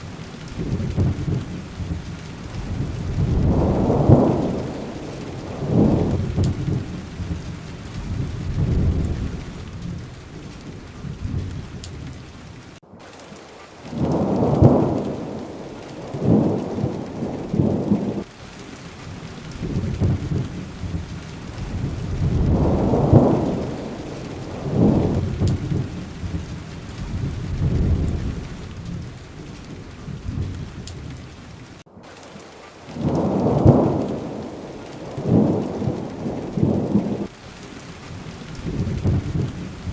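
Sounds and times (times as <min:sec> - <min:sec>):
thunder rumbling: 0:00.0 - 0:31.8, 0:32.9 - 0:39.9
heavy rain: 0:00.0 - 0:39.9.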